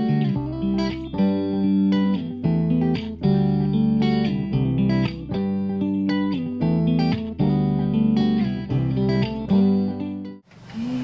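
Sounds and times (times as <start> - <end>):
guitar chords: 0.0 - 11.0.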